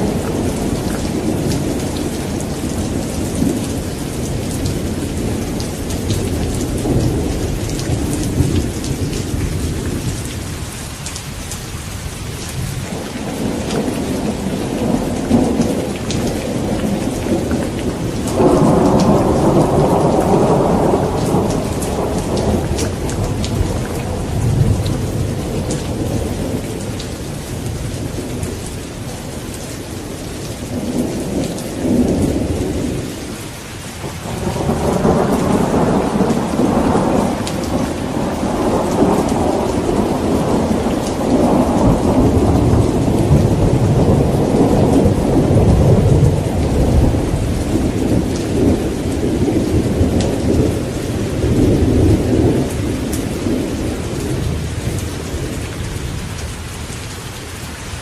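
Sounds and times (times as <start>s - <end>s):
rolling thunder: 0.0s - 10.6s, 12.3s - 33.4s, 34.0s - 56.5s
steady rain: 0.0s - 58.0s.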